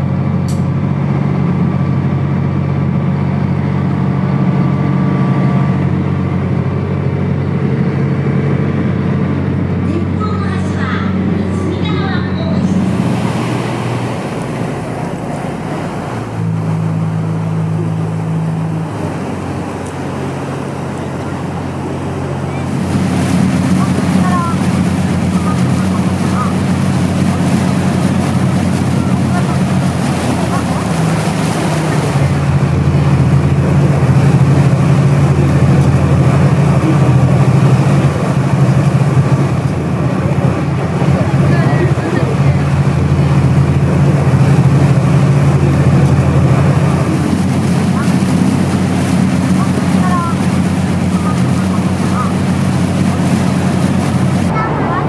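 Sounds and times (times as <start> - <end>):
boat engine hum: 0.0 - 55.0
water rushing: 0.0 - 55.0
wind: 0.0 - 55.0.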